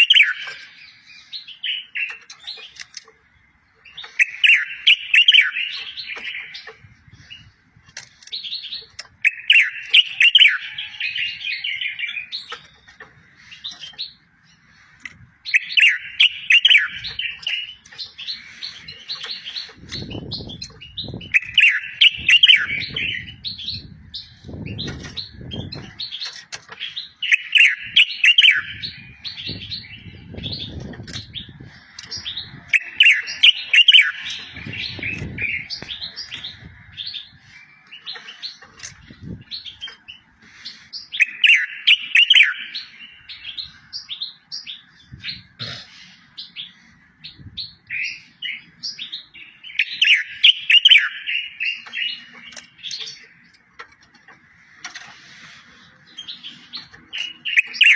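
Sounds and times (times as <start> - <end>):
songbird chirping and trilling: 0.0 - 57.9.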